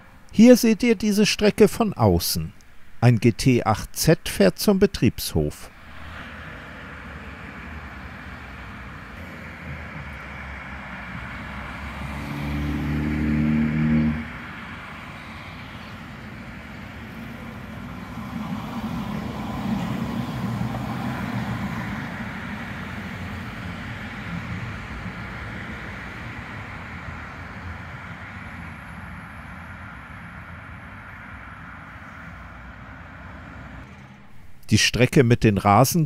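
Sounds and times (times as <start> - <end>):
road traffic hiss: 0.0 - 34.8
tram passing: 5.6 - 35.1.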